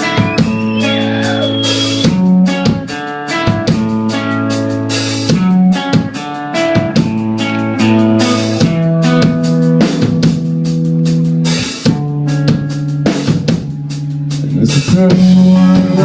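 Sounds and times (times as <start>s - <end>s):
drums with cymbal hits: 0.0s - 16.0s
rock band guitar chords: 0.0s - 16.0s.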